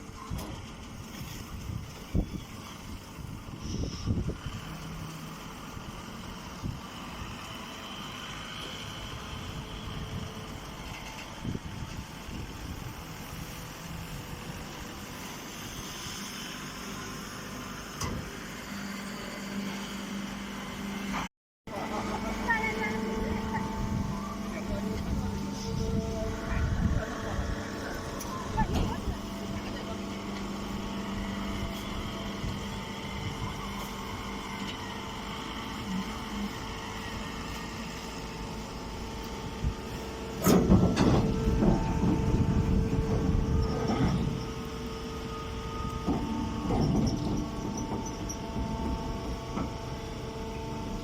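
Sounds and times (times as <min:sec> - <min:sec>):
hay baling machine running: 0:00.3 - 0:51.0.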